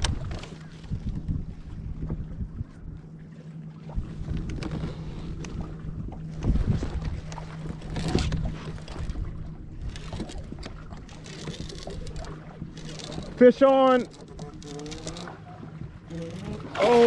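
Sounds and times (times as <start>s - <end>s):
wind buffeting microphone: 0.0s - 3.1s, 3.8s - 14.7s
water splashing against kayak hull: 0.0s - 17.0s.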